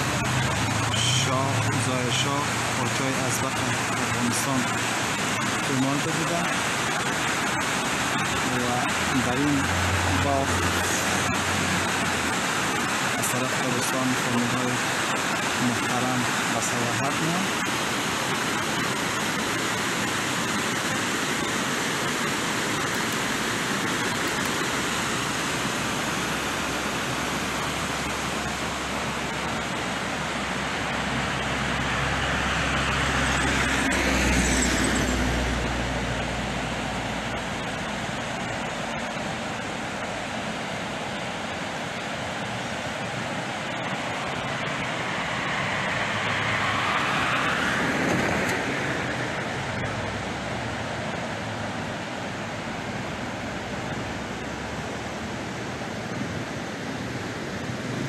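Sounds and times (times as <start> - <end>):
river rushing: 0.0 - 58.0
road vehicles passing by: 0.0 - 58.0.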